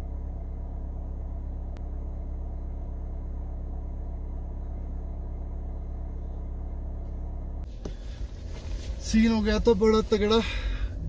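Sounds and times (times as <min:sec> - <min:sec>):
engine idling inside cabin: 0:00.0 - 0:11.0.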